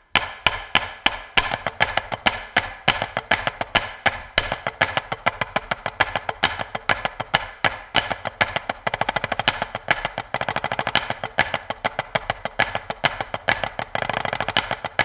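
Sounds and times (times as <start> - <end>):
drumsticks on practice pads: 0.0 - 15.0.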